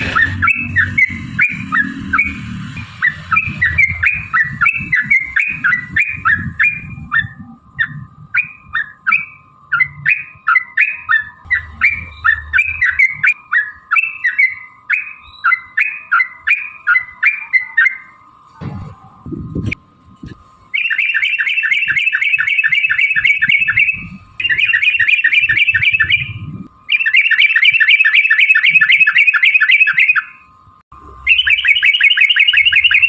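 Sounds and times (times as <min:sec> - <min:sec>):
bulbul singing bubbly chirps: 0:00.0 - 0:18.2, 0:20.7 - 0:30.4, 0:31.2 - 0:33.0.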